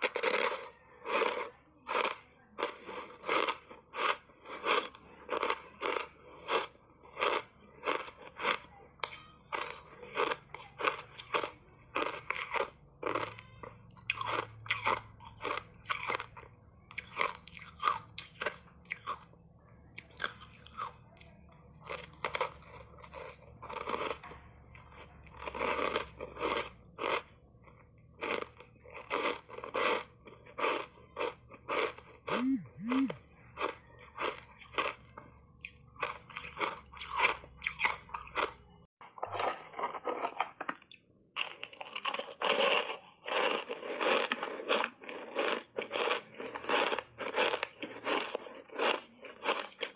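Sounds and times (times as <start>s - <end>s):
ice being crunched by chewing: 0.0s - 49.9s.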